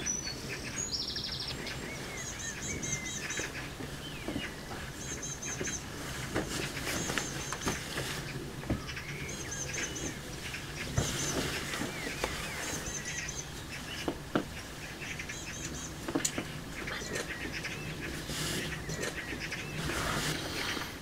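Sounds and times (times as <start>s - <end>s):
birds chirping: 0.0s - 21.0s
harsh bird calls: 0.0s - 21.0s
lower wavering bird calls: 0.0s - 21.0s.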